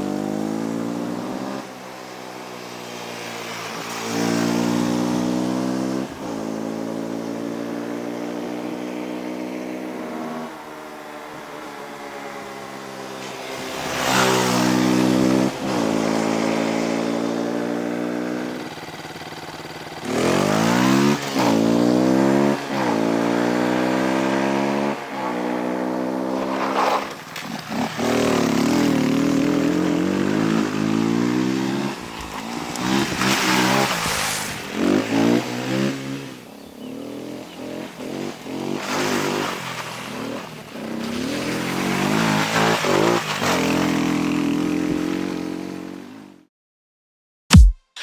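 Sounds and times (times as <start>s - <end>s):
motorcycle accelerating through gears: 0.0s - 46.5s.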